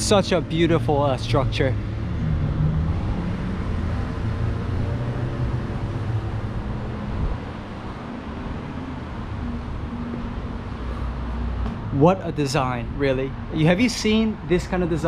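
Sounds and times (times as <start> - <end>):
traffic noise: 0.0 - 15.0
vehicle engine hum: 0.0 - 15.0.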